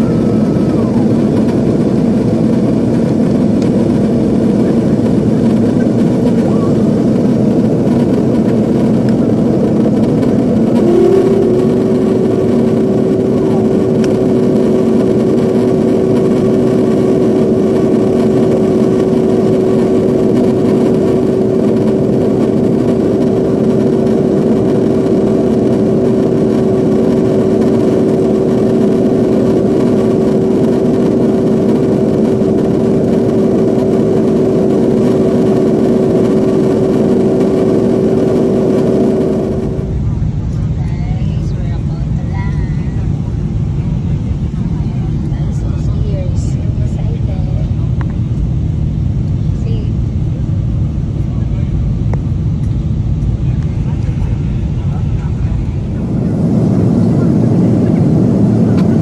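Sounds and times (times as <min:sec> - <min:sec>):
jet engine and airflow rumble: 0:00.0 - 0:59.0
steady droning tone: 0:00.0 - 0:59.0.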